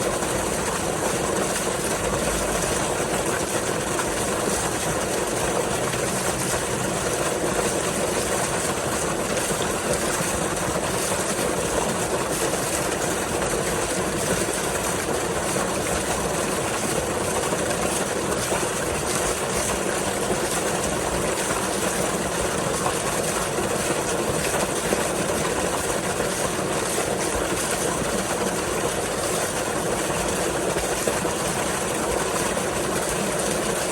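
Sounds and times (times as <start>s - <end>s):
water gushing from an outflow: 0.0s - 33.9s.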